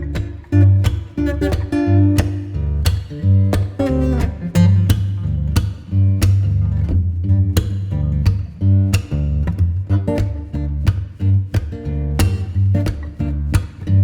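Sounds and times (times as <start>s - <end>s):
bass line: 0.0s - 14.0s
plucked and strummed guitar: 0.0s - 14.0s
regular beat: 0.0s - 14.0s.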